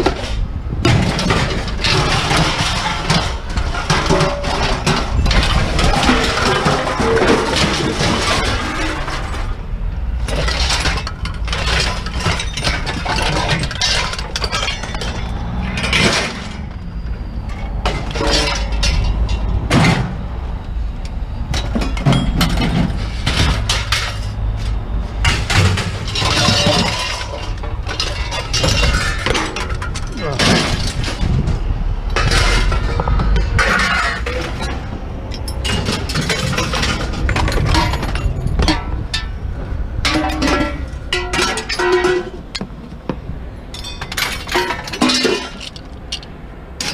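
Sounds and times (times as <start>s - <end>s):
sheet metal clanging onto pile: 0.0s - 9.6s, 10.2s - 20.2s, 21.5s - 43.1s, 43.7s - 46.9s
low engine rumble: 0.0s - 46.9s.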